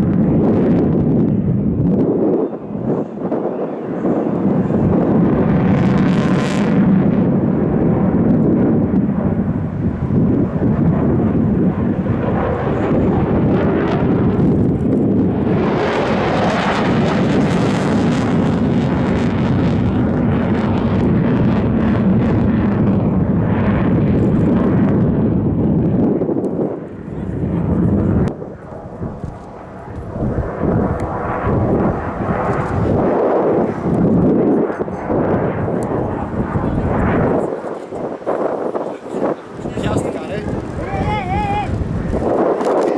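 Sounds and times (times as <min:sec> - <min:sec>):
jet aircraft engine roar: 0:00.0 - 0:42.9.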